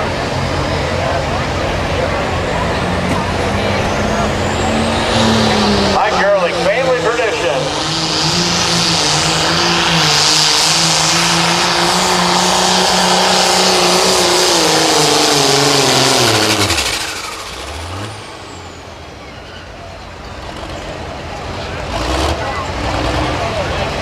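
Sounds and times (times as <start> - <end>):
diesel tractor engine at full throttle: 0.0 - 24.0.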